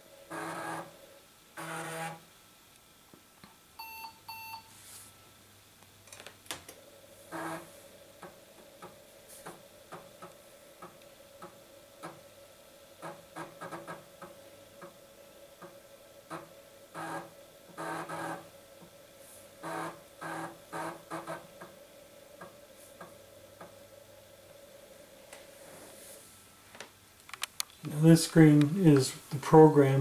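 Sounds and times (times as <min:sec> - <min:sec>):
floppy drive clicking and buzzing: 0:00.0 - 0:03.6, 0:05.8 - 0:19.0, 0:19.6 - 0:25.5, 0:26.7 - 0:30.0
steady computer hum: 0:00.0 - 0:30.0.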